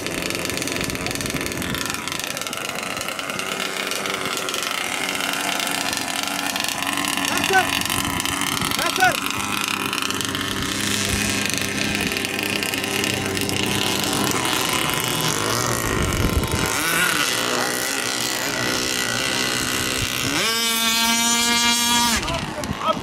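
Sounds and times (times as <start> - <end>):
loud steady engine note: 0.0 - 23.0
rc boat engines buzzing: 0.0 - 23.0.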